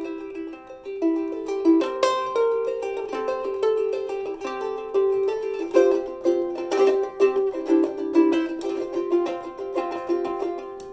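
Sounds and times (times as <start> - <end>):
ukulele strumming chords: 0.0 - 10.9.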